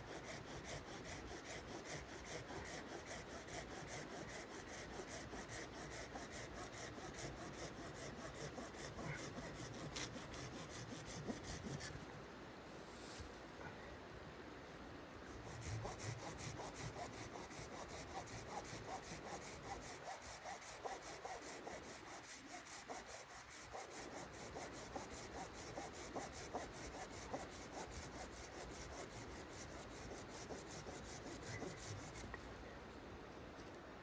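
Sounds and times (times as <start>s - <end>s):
hand saw cutting log: 0.0s - 12.0s, 15.5s - 32.3s.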